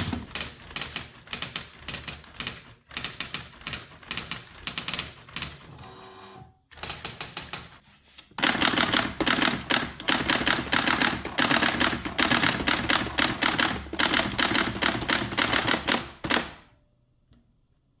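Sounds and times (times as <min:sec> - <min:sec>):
typewriter typing: 0:00.0 - 0:05.7, 0:06.8 - 0:07.8, 0:08.4 - 0:16.6.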